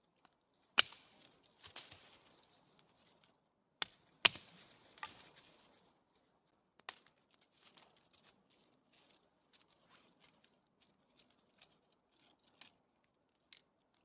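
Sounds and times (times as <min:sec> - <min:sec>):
faint rustling and scraping: 0:01.1 - 0:03.4, 0:04.4 - 0:13.4.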